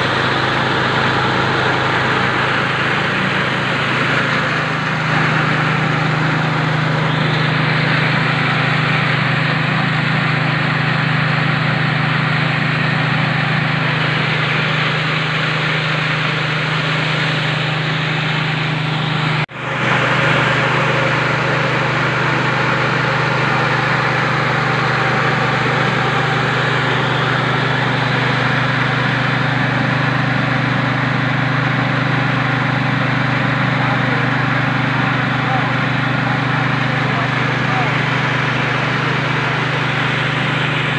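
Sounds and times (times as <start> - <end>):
rice mill running: 0.0 - 40.9.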